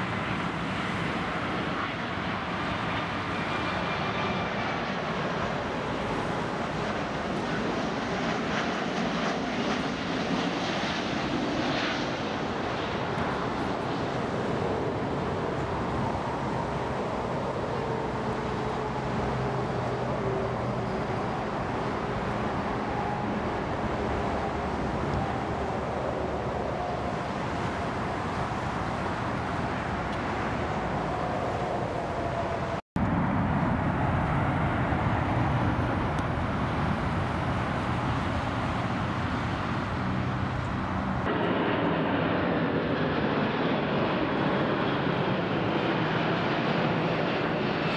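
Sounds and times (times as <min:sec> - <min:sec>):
jet engine rumble on runway: 0:00.0 - 0:47.9
jet engine whine on approach: 0:00.0 - 0:47.9.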